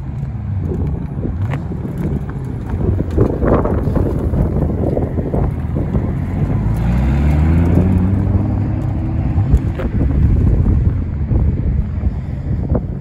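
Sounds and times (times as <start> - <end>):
car engine rumbling and accelerating: 0.0 - 13.0.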